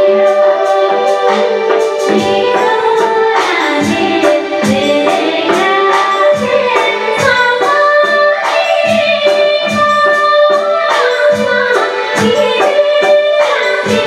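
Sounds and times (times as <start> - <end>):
instrumental backing with drum beat: 0.0 - 14.0
woman singing: 0.0 - 14.0.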